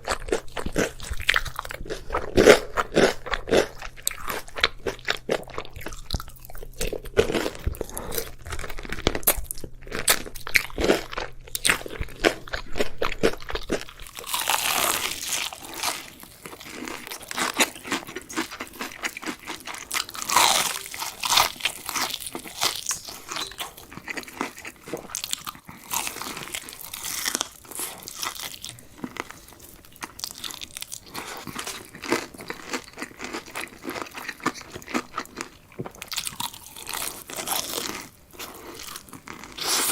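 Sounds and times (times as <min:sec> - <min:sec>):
fried chicken crunching: 0:00.0 - 0:39.9.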